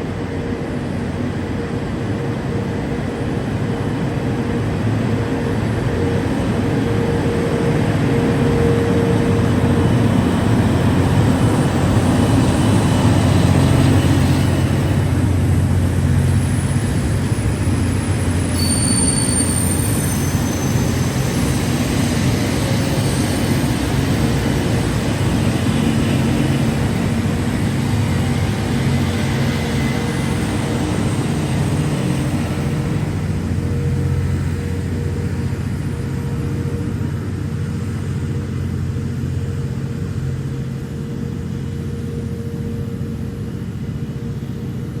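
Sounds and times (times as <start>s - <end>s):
low train engine drone: 0.0s - 45.0s.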